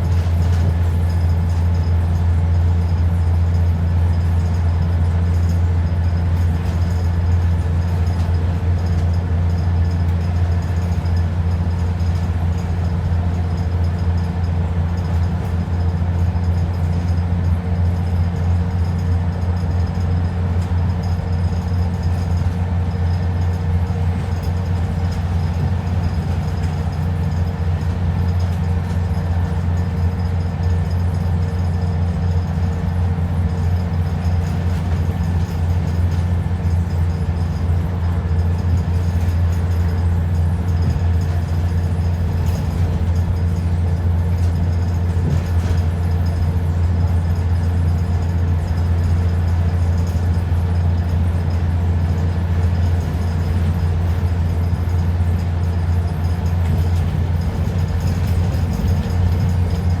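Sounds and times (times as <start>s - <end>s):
bus diesel engine hum: 0.0s - 60.0s.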